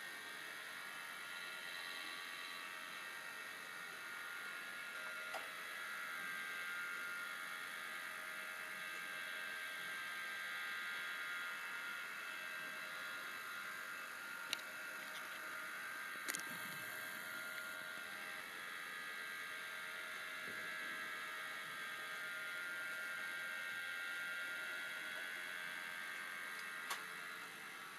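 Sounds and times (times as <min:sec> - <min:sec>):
small motor whirring: 0:00.0 - 0:27.9.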